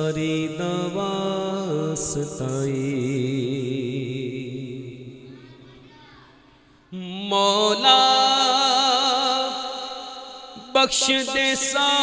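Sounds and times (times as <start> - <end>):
man singing into a microphone: 0.0 - 5.7, 6.9 - 12.0.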